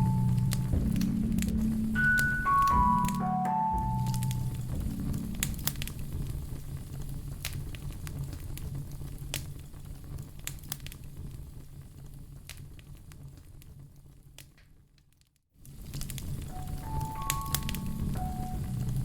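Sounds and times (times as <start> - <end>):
low rumbling hiss: 0.0 - 13.9, 15.6 - 19.0
wood fire crackling and popping: 0.0 - 19.0.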